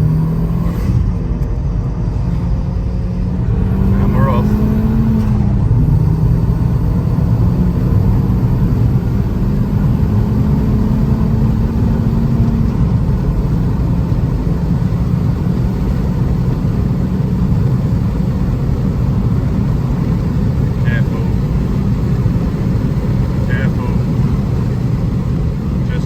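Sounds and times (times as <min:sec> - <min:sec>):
car engine accelerating hard: 0:00.0 - 0:26.0
road rumble: 0:00.0 - 0:26.0.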